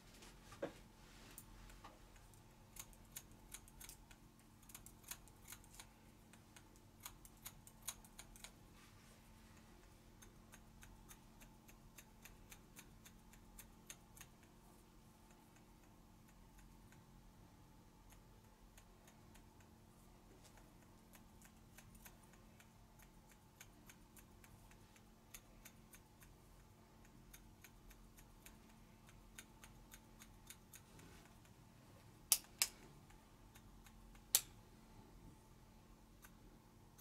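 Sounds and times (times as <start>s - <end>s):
small clicks and ticks: 1.3s - 8.8s, 9.4s - 34.6s, 36.0s - 37.0s.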